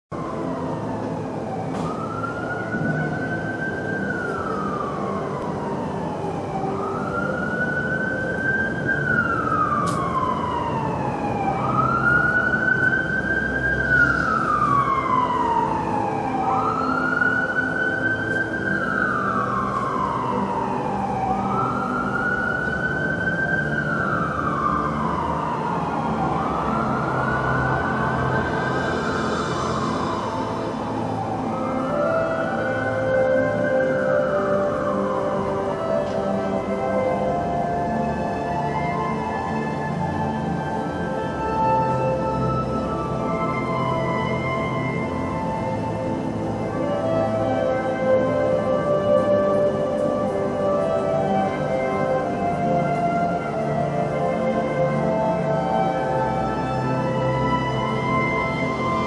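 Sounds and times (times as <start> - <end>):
siren wailing: 0.1 - 59.0.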